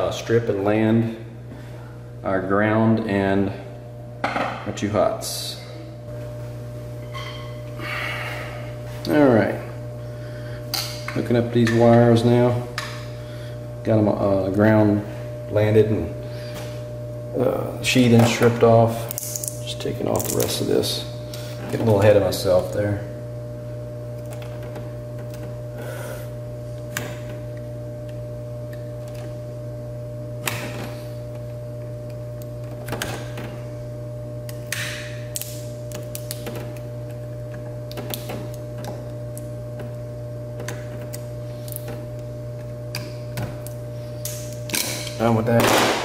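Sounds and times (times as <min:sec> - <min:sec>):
steady hum: 0:00.0 - 0:46.0.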